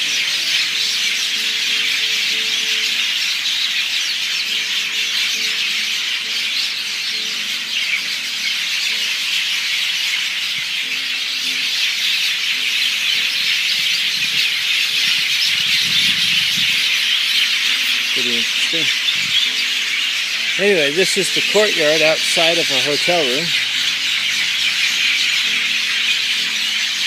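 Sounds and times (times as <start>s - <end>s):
birds chirping and squawking: 0.0s - 27.0s.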